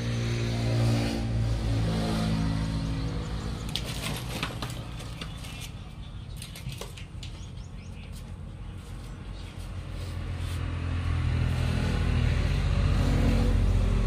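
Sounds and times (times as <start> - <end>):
vehicle engine humming: 0.0 - 6.4, 7.0 - 14.0.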